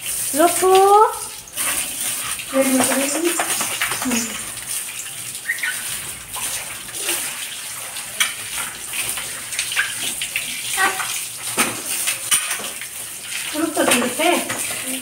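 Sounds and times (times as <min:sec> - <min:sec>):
hose water splashing: 0:00.0 - 0:15.0.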